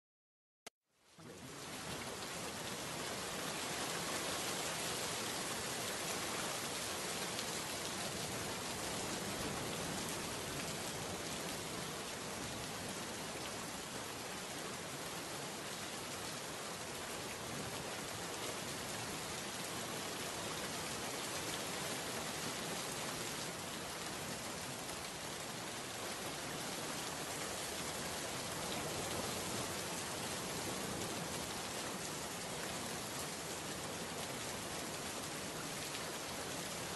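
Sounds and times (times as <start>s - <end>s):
steady rain: 0.9s - 36.9s.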